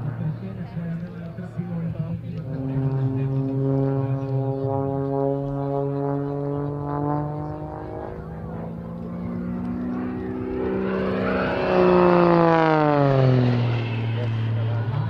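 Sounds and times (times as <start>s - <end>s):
propeller plane droning past: 0.0s - 15.0s.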